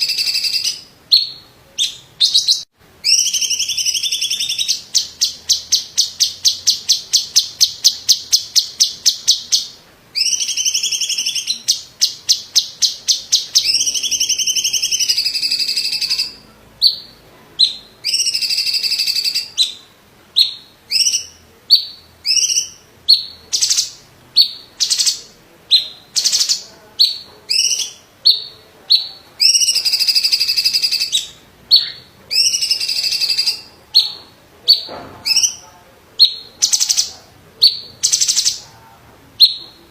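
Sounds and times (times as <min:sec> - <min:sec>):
bird singing loudly: 0:00.0 - 0:35.6, 0:36.2 - 0:38.6.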